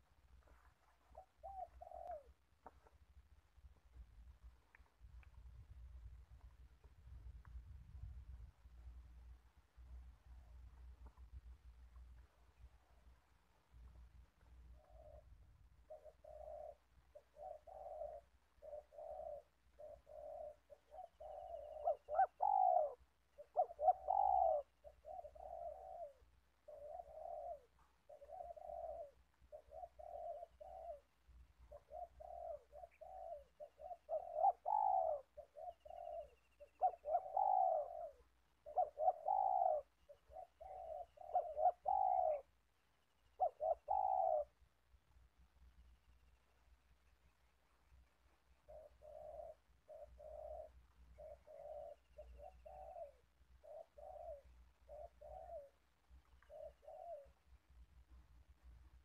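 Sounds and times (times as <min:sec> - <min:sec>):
dove cooing: 0:00.0 - 0:03.2, 0:09.1 - 0:44.9, 0:48.2 - 0:59.0.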